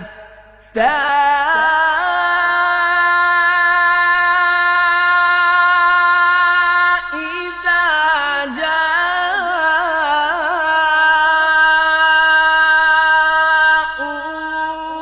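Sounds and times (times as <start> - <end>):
person chanting melodically: 0.0 - 15.0.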